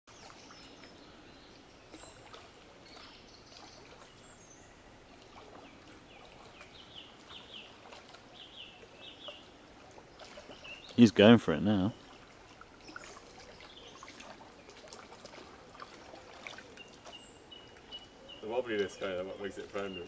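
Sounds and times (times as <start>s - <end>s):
bird singing: 0.1s - 12.2s, 12.8s - 14.8s, 16.1s - 20.0s
paddle dipping in water: 0.1s - 20.0s.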